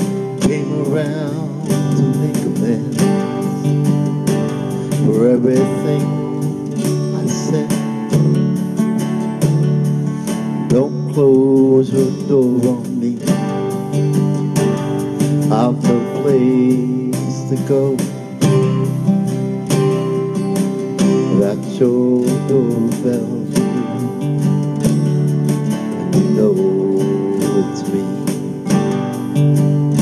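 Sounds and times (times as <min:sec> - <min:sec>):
person singing: 0:00.0 - 0:19.1, 0:19.7 - 0:29.2
strummed acoustic guitar: 0:00.0 - 0:30.0.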